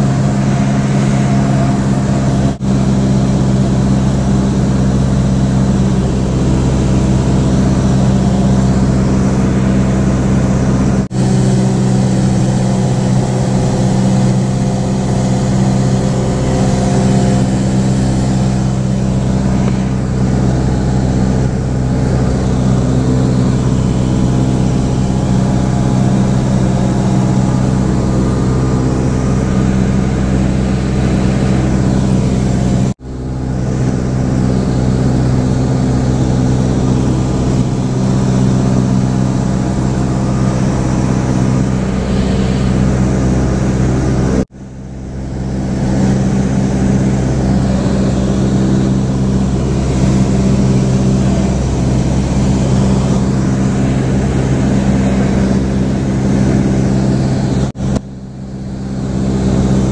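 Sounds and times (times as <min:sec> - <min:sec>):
low hum and rushing noise: 0:00.0 - 0:59.9
propeller plane engine droning: 0:00.0 - 0:59.9.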